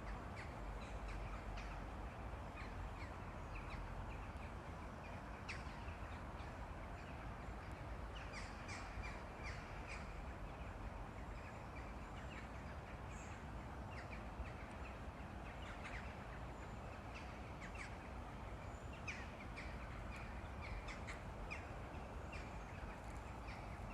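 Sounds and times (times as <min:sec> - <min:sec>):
outdoor ambient noise: 0:00.0 - 0:23.9.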